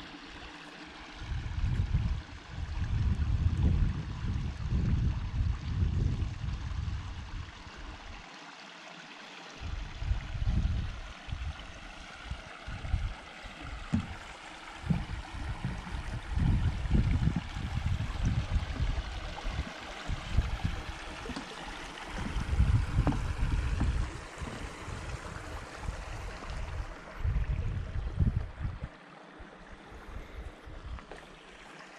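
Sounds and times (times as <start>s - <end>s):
wind buffeting microphone: 1.2s - 7.7s, 9.6s - 29.0s.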